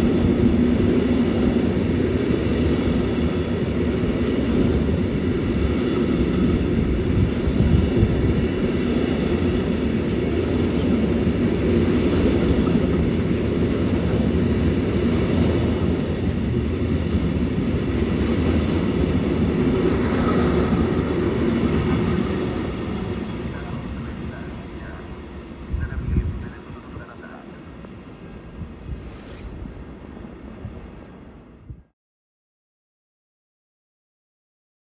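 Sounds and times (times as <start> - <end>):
freight train wheels rumbling: 0.0 - 31.4.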